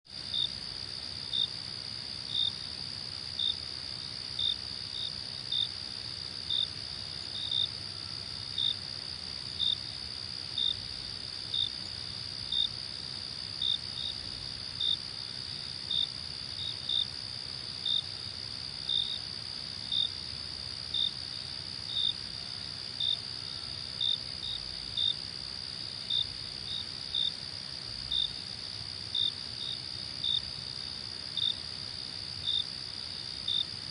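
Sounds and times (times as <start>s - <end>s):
crickets trilling and chirping: 0.1s - 33.9s.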